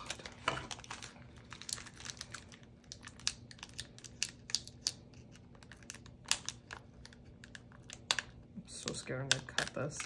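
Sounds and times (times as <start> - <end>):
packing tape and plastic crackling: 0.0 - 10.0.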